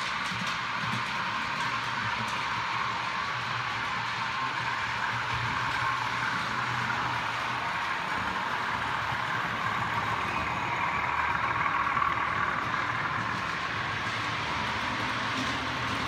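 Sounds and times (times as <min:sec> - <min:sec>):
model trains whirring on rails: 0:00.0 - 0:16.0.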